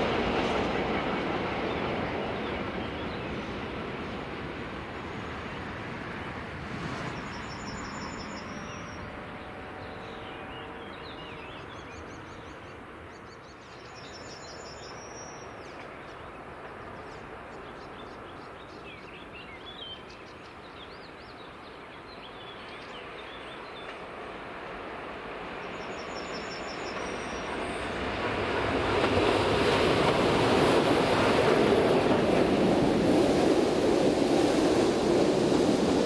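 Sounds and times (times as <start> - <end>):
outdoor background noise: 0.0 - 36.0
train rumble: 0.0 - 36.0.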